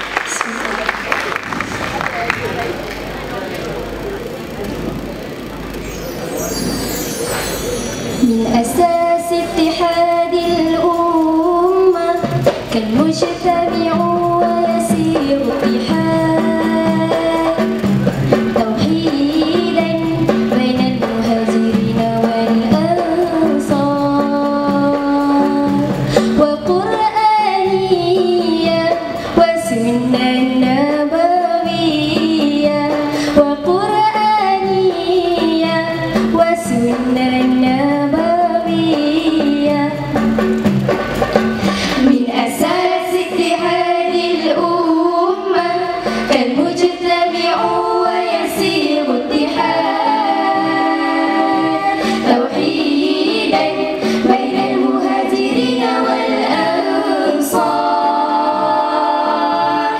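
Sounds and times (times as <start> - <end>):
drum strikes: 0.0 - 58.1
girls singing into microphones: 8.2 - 40.3, 41.6 - 59.9.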